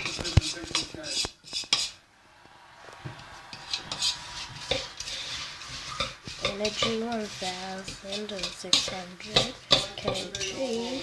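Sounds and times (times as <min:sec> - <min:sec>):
utensils and dishes clattering: 0:00.0 - 0:02.0, 0:03.5 - 0:11.0.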